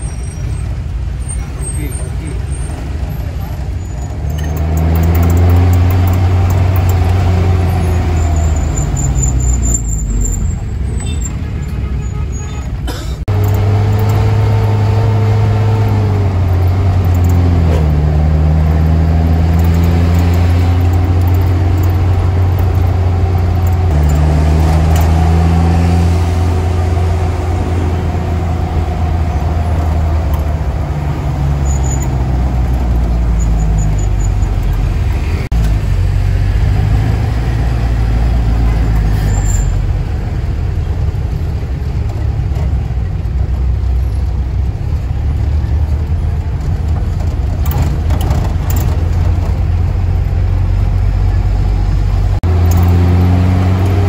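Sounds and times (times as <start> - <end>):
minibus engine running hard: 0.0 - 54.0.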